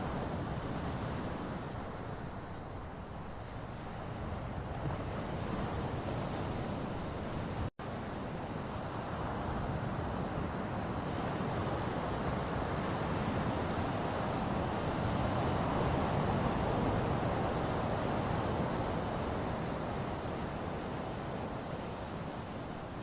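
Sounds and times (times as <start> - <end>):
ocean waves washing in: 0.0 - 23.0.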